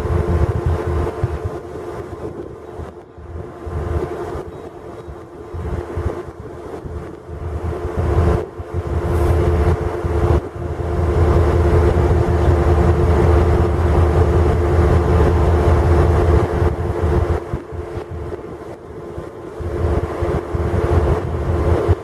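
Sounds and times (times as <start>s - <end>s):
diesel locomotive engine rumbling: 0.0s - 22.0s.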